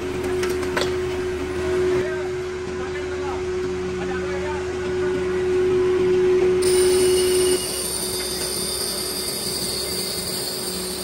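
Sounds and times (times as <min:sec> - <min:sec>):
grinding wheel whine: 0:00.0 - 0:11.0
machine hum: 0:00.0 - 0:11.0.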